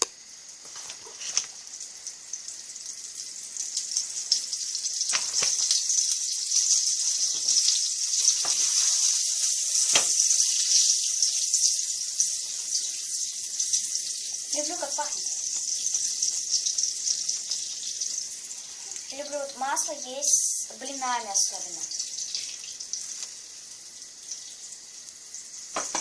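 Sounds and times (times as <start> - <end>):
butter sizzling in a frying pan: 0.0 - 26.0.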